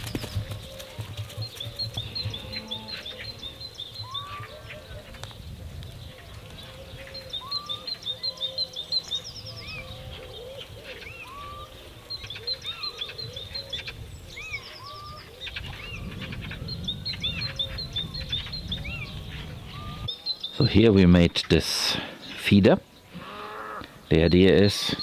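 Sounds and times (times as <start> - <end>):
songbirds chirping and singing: 0.0 - 25.0.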